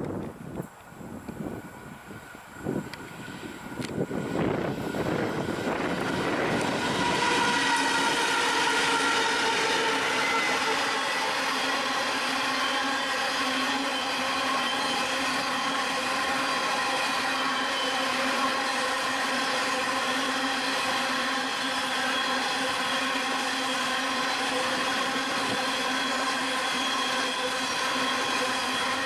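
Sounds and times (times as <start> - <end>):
diesel locomotive engines: 0.0 - 29.0
wagons rumbling on rails: 0.0 - 29.0.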